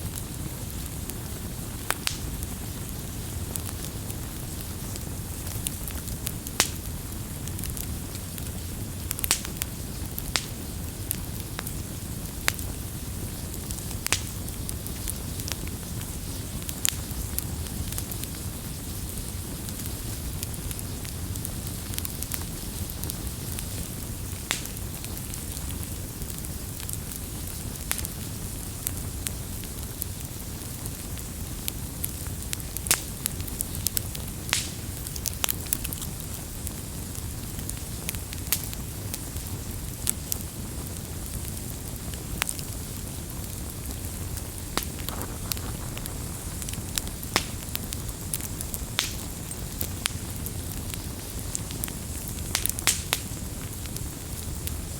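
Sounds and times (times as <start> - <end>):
fire popping and crackling: 0.0 - 54.9
low rumble of flames: 0.0 - 54.9.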